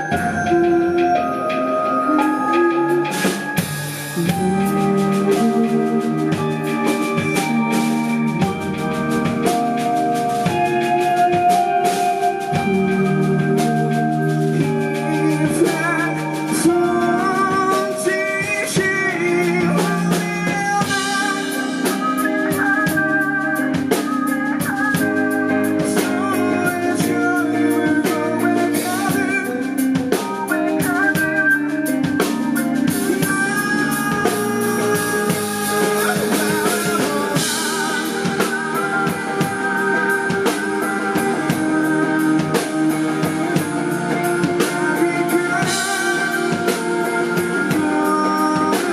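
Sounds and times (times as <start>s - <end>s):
drum kit: 0.0s - 48.9s
guitar: 0.0s - 48.9s
person singing: 0.0s - 48.9s.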